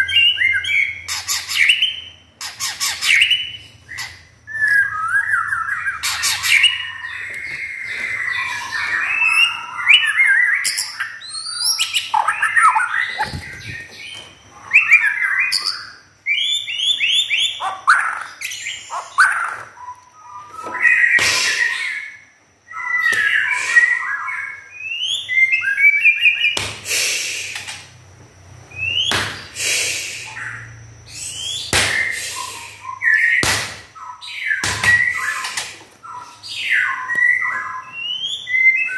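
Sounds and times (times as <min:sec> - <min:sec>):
songbird singing whistles and trills: 0:00.0 - 0:26.6, 0:28.7 - 0:29.2, 0:30.0 - 0:38.9.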